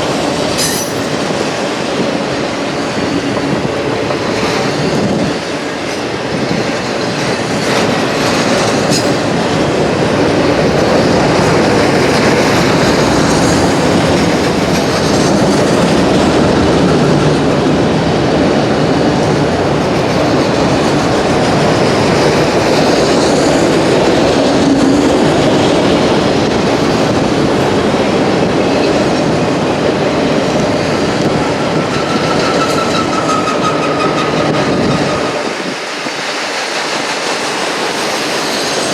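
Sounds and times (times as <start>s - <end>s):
steel train wheels rumbling on rails: 0.0s - 38.9s.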